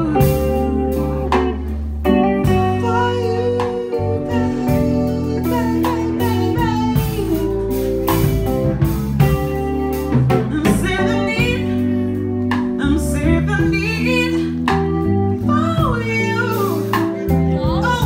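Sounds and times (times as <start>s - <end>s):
woman singing: 0.0s - 8.6s, 9.2s - 18.0s
held instrumental chords: 0.0s - 18.0s.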